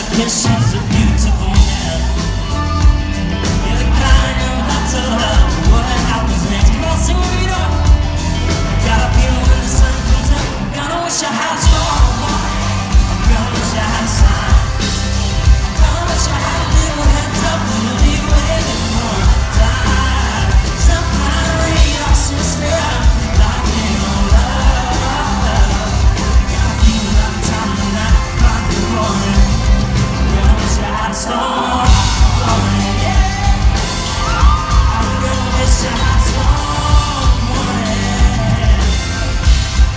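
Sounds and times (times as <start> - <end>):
pounding drum beat: 0.0 - 10.9, 11.6 - 31.1, 31.8 - 39.9
electric guitars: 0.0 - 39.9
male singer: 0.0 - 39.9.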